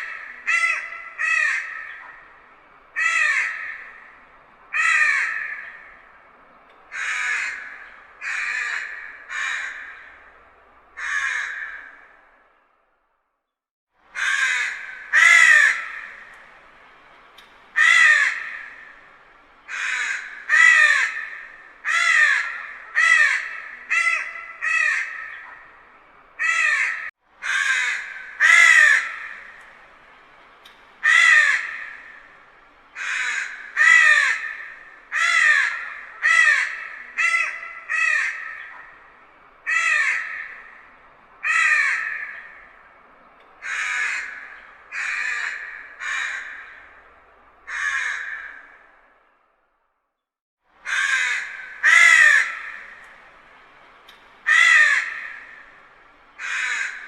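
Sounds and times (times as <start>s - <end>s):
crow cawing: 0.0s - 12.4s, 14.2s - 16.7s, 17.8s - 29.9s, 31.0s - 49.2s, 50.8s - 53.4s, 54.1s - 57.0s.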